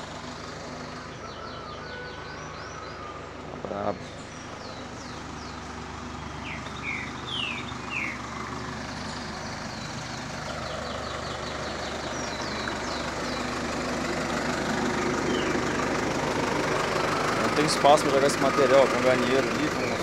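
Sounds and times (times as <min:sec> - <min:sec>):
birds chirping: 0:00.0 - 0:20.0
diesel engine idling: 0:00.0 - 0:20.0.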